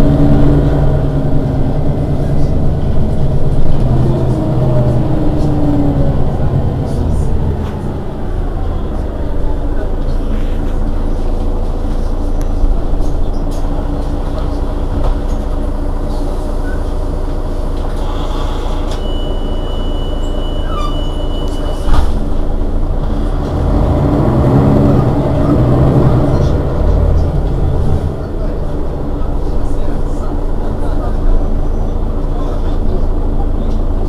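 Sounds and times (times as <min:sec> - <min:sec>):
bus engine idling: 0:00.0 - 0:34.0.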